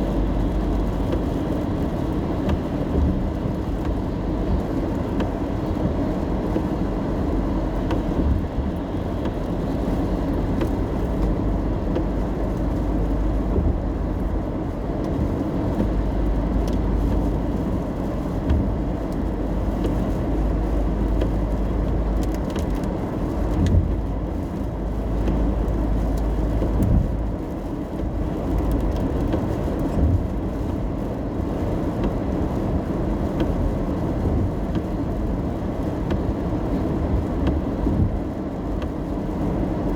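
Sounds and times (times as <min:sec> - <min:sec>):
deep engine rumble: 0:00.0 - 0:39.9
road and tyre noise: 0:00.0 - 0:39.9.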